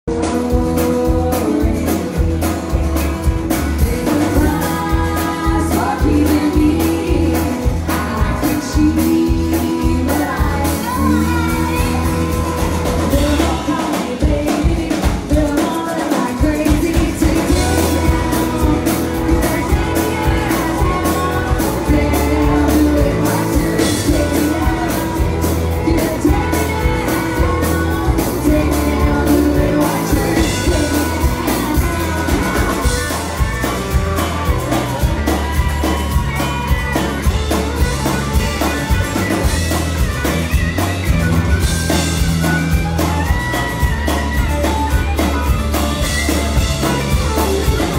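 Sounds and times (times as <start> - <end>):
person singing: 0.0 - 40.4
electric guitar: 0.0 - 47.9
steady drum beat: 0.1 - 47.9.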